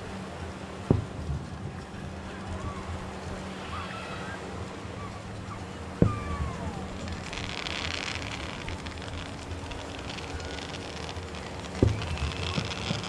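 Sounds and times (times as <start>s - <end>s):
firework sparks crackling: 0.0s - 13.0s.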